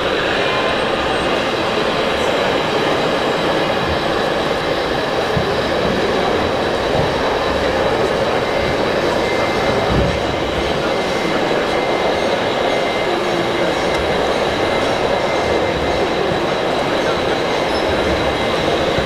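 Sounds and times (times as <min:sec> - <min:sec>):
crowd din in a hall: 0:00.0 - 0:19.0
model construction machines working: 0:00.0 - 0:19.0.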